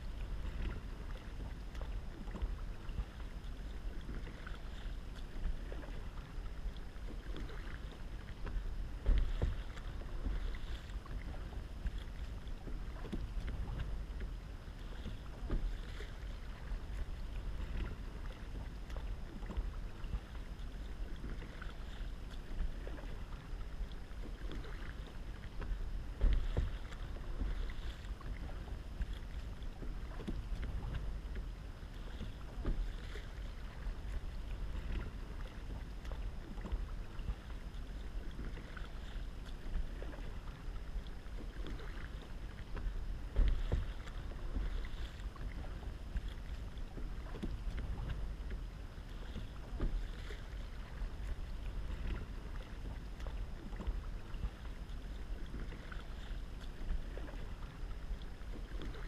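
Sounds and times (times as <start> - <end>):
paddle strokes splashing in water: 0.0 - 59.0
wind rumble on microphone: 0.0 - 59.0.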